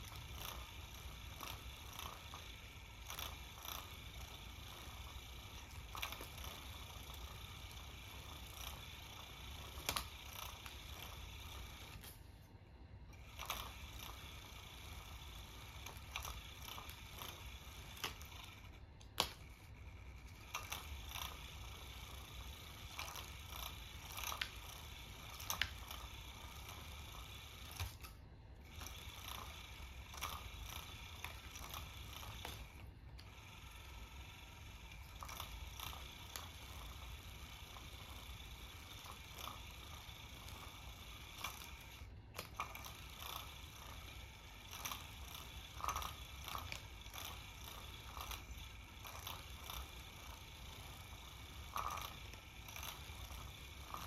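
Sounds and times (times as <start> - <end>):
small toy motor whirring: 0.0 - 12.4, 13.0 - 54.0.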